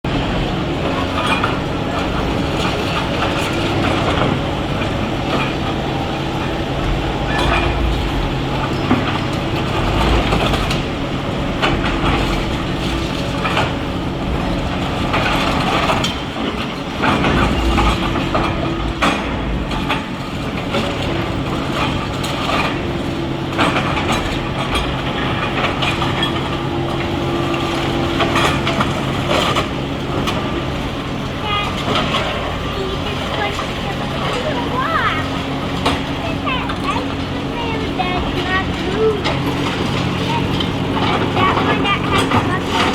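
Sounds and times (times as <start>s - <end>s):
excavator diesel engines: 0.0s - 42.9s
clanks and crunches of debris: 0.2s - 42.9s.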